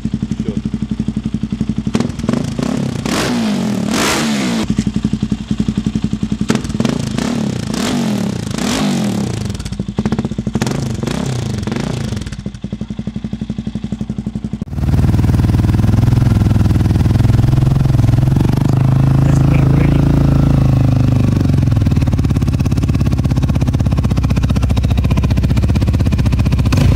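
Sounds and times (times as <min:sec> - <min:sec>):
motorcycle engine revving and idling: 0:00.0 - 0:26.9.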